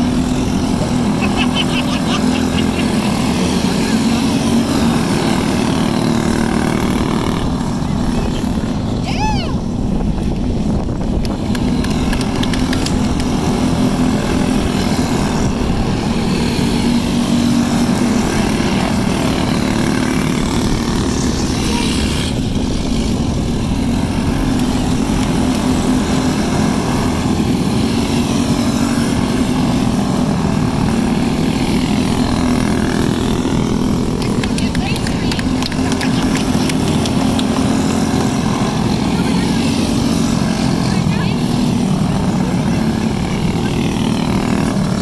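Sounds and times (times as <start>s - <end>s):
kart engines buzzing: 0.0s - 45.0s.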